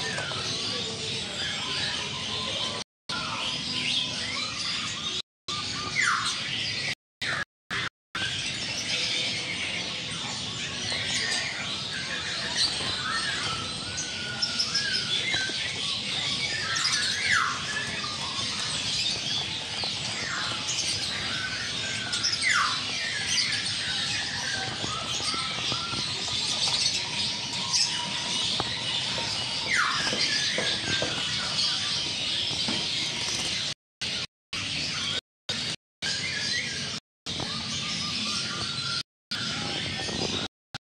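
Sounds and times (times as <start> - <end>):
caged birds chirping and squawking: 0.0 - 40.5.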